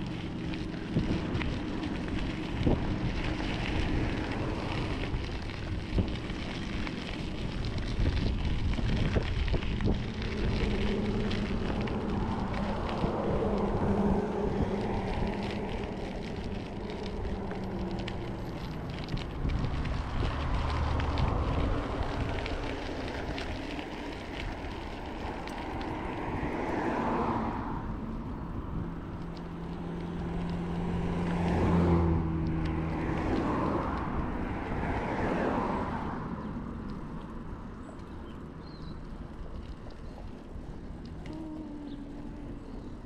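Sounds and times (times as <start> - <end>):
bicycle riding noise: 0.0 - 43.0
cars driving past: 0.0 - 43.0.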